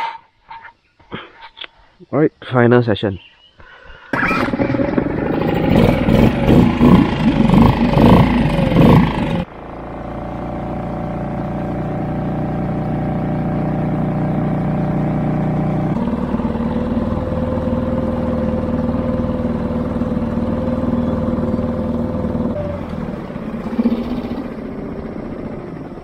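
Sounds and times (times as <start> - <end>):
outboard motor droning: 4.2 - 26.0.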